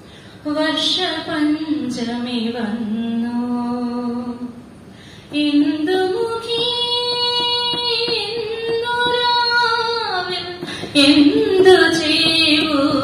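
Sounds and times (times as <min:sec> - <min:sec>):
woman singing: 0:00.4 - 0:04.6, 0:05.3 - 0:13.0.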